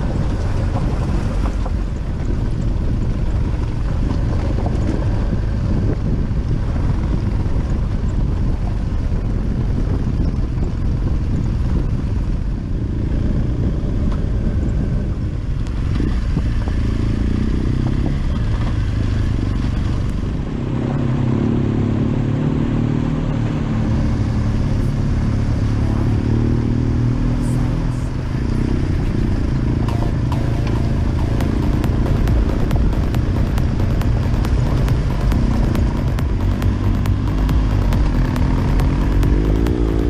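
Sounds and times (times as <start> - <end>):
motorcycle engine rumbling: 0.0 - 40.0.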